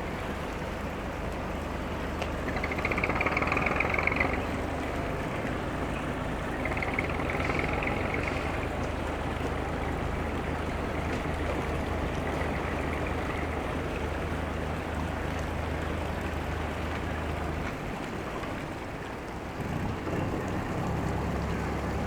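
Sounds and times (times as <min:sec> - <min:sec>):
low engine hum: 0:00.0 - 0:22.0
wash of noise: 0:00.0 - 0:22.0.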